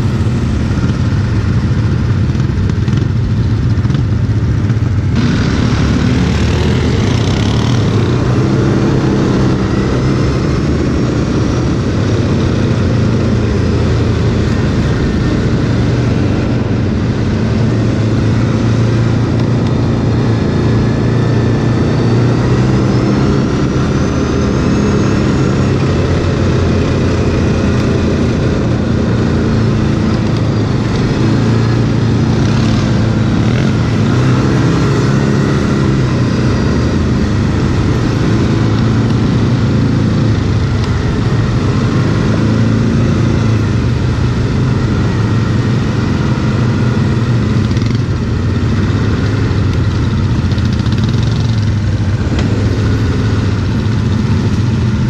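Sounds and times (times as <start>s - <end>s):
quad engine running: 0.0s - 55.0s.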